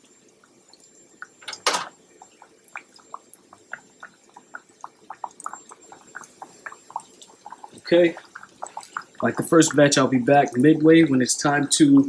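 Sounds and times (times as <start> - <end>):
hot oil sizzling and popping: 0.0 - 12.0.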